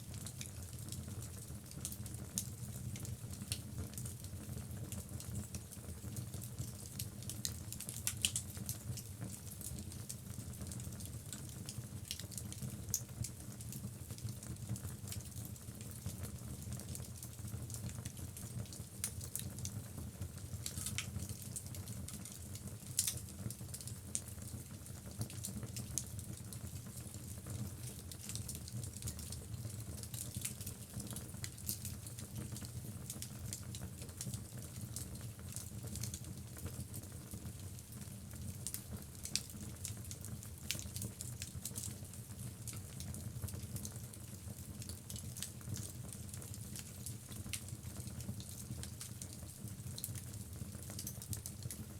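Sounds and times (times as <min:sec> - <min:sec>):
burning logs crackling and popping: 0:00.2 - 0:13.7, 0:14.4 - 0:24.6, 0:25.2 - 0:51.9.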